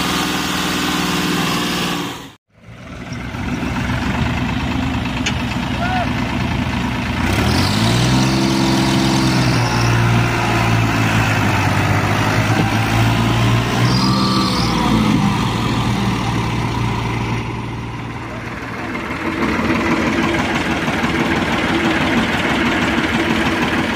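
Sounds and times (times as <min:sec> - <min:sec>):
tractor engine revving under load: 0:00.0 - 0:23.9.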